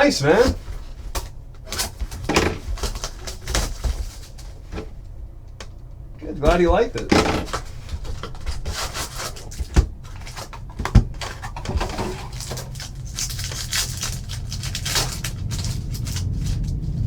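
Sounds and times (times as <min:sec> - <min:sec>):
foil wrappers crinkling and tearing: 0:00.0 - 0:05.1, 0:06.2 - 0:17.0
cards rustling: 0:00.0 - 0:17.0.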